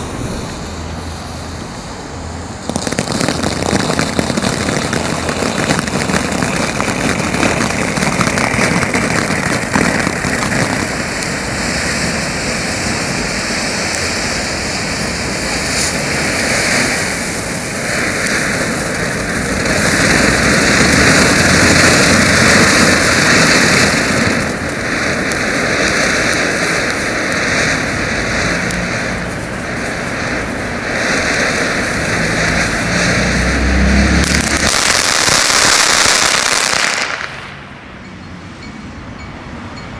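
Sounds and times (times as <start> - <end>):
firework fountain hissing sparks: 0.0 - 38.0.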